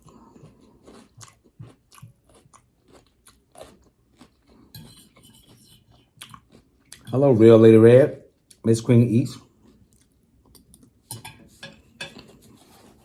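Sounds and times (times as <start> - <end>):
crunchy chewing of salad: 0.0 - 7.6, 8.3 - 8.6, 9.4 - 13.0.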